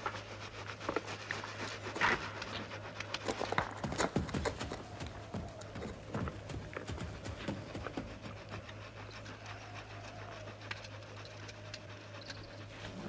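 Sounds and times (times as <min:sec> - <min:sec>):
hooves clattering on stony ground: 0:00.0 - 0:13.0
low steady hum: 0:00.0 - 0:13.0.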